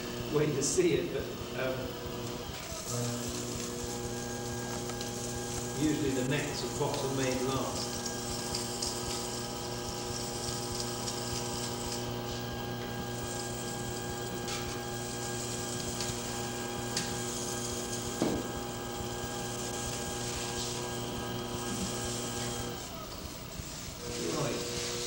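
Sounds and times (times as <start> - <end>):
potter's wheel motor hum: 0.0 - 25.0.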